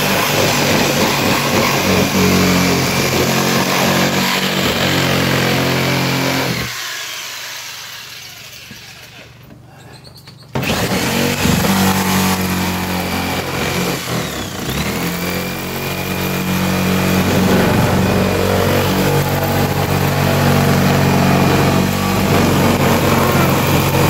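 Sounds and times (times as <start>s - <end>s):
jigsaw cutting plastic: 0.0s - 9.4s, 10.5s - 24.0s.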